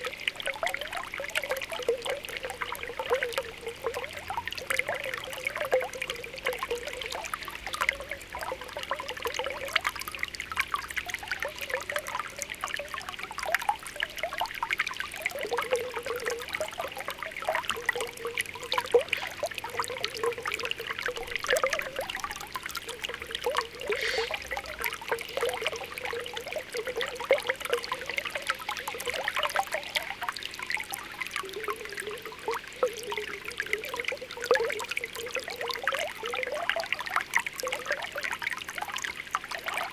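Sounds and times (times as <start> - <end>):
spring water bubbling: 0.0 - 39.9.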